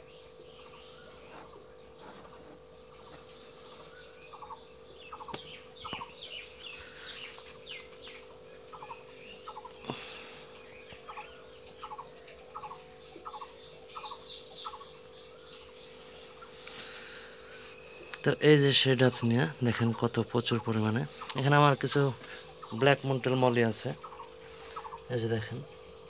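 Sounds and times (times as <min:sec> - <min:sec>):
birds calling: 0:00.0 - 0:26.0
steady hum: 0:00.0 - 0:26.0
high falling chirps: 0:03.0 - 0:25.7.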